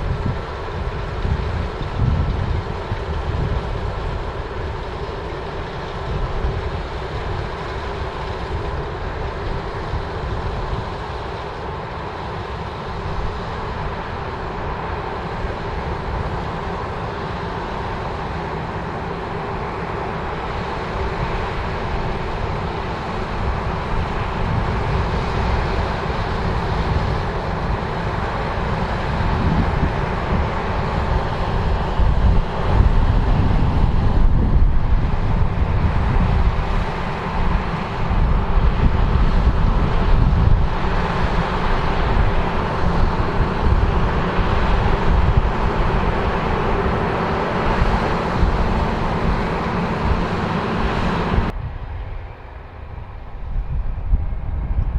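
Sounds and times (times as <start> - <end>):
combine harvester drone: 0.0 - 54.9
wind rumble on microphone: 0.0 - 54.9.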